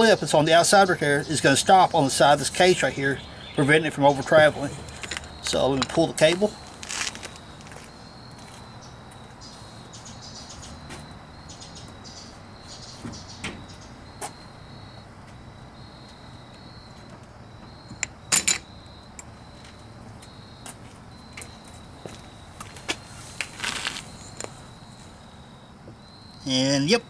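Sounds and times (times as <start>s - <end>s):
faint high chirping: 0.0s - 27.0s.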